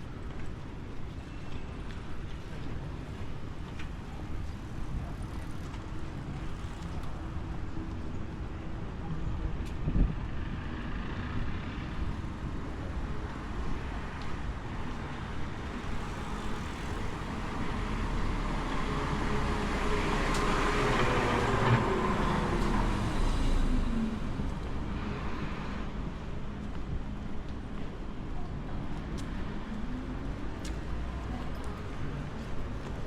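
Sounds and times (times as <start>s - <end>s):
street traffic noise: 0.0s - 33.0s.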